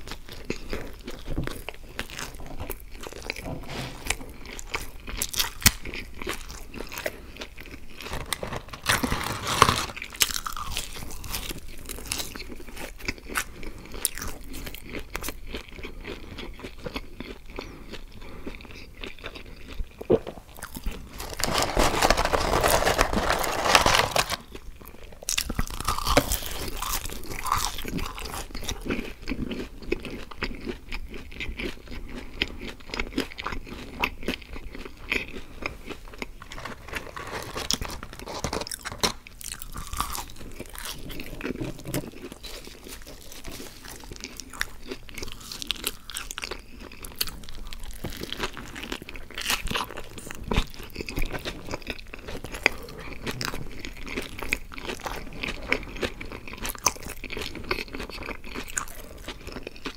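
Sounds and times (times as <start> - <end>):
chewing crunchy fries: 0.0 - 59.9.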